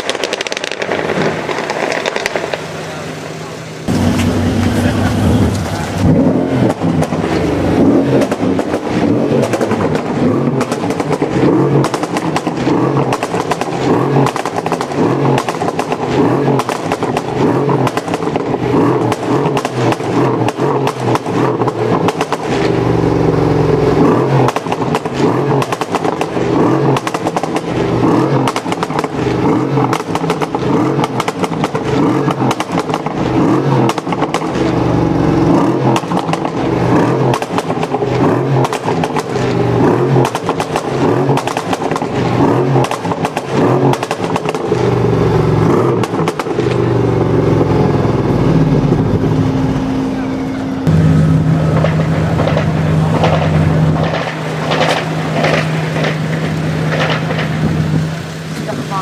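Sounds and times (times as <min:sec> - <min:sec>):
exhaust crackling and popping: 0:00.0 - 0:50.2, 0:50.8 - 0:59.0
car engine revving: 0:00.0 - 0:59.0.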